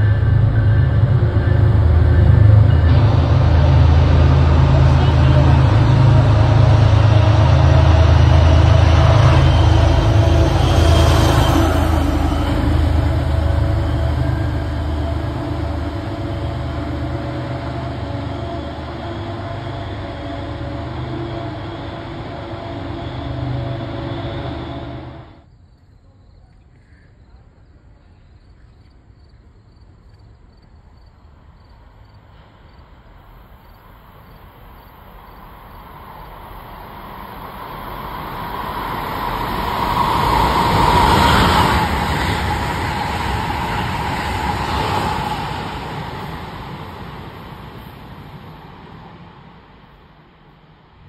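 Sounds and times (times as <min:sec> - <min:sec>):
high-speed train passing: 0:00.0 - 0:25.5, 0:29.1 - 0:51.0
train whine: 0:00.0 - 0:25.5, 0:29.8 - 0:51.0.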